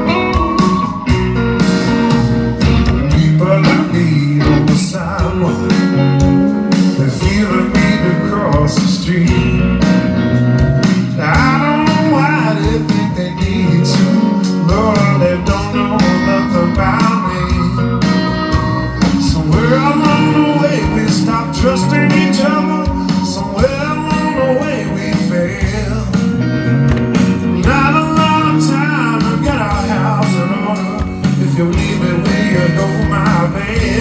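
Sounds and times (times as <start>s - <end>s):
blues rock band playing: 0.0s - 34.0s
lead guitar bending notes: 0.0s - 34.0s.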